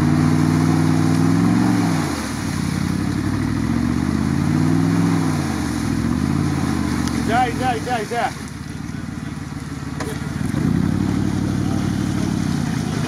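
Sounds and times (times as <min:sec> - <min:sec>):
truck engine revving hard: 0:00.0 - 0:08.4, 0:09.9 - 0:13.0.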